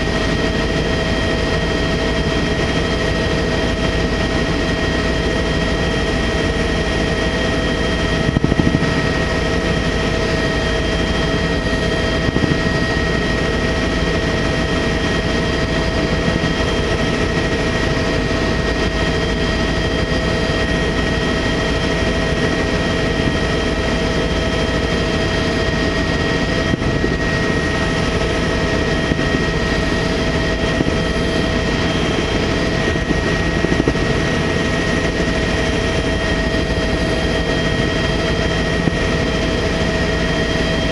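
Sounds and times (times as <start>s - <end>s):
helicopter engine and rotor: 0.0s - 40.9s
high whine: 6.3s - 40.9s.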